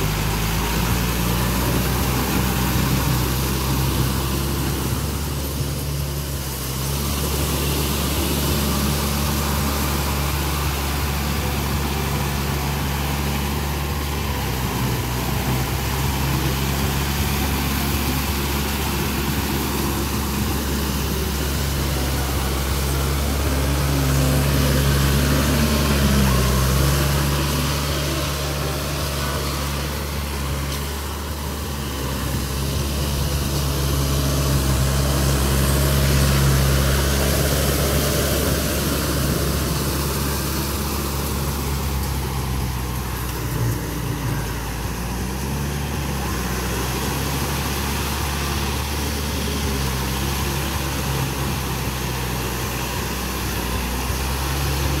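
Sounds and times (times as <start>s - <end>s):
hiss of churned mud and water: 0.0s - 55.0s
tractor diesel engine running: 0.0s - 55.0s.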